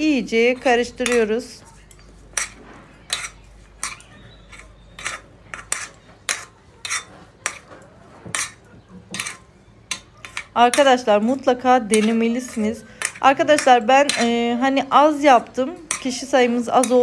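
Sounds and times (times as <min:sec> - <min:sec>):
metal spoons scraping a pan: 0:00.0 - 0:17.0.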